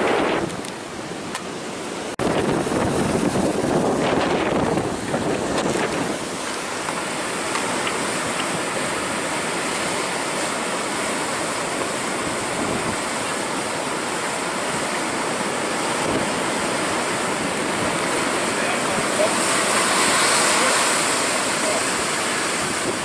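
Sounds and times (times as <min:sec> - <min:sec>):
heavy surf breaking waves: 0:00.0 - 0:23.0.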